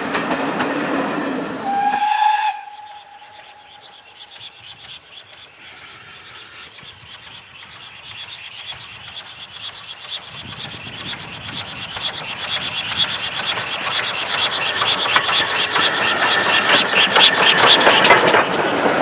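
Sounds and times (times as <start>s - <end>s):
steam train on rails: 0.0s - 19.0s.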